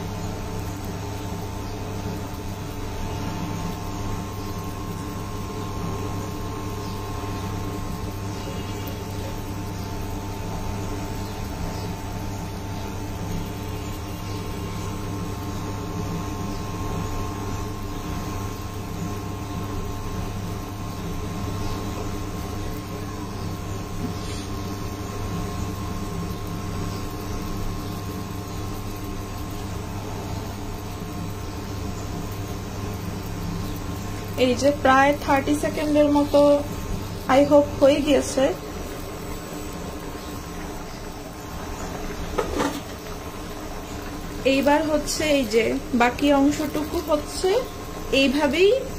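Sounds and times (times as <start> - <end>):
curry simmering: 0.0 - 48.2
cooktop hum with fan noise: 0.0 - 48.9
faint steady whine: 0.0 - 48.9.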